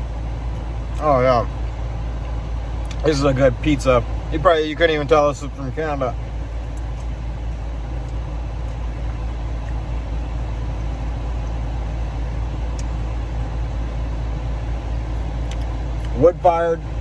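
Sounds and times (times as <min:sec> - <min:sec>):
air conditioning fan rushing: 0:00.0 - 0:17.0
car engine idling: 0:00.0 - 0:17.0.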